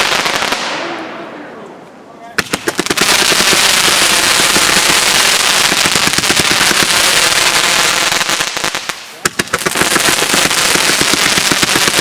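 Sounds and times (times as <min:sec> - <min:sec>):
firecrackers popping: 0:00.0 - 0:01.0, 0:02.4 - 0:12.0.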